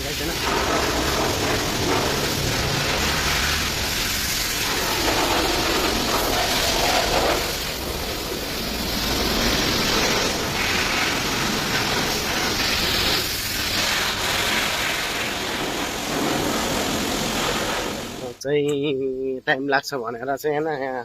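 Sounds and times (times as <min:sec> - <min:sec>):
hose spraying water: 0:00.0 - 0:18.4.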